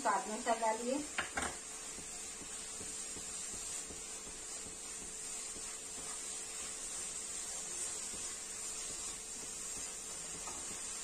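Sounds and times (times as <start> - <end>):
spatula scraping in frying pan: 0.0 - 11.0
steady hiss: 0.0 - 11.0.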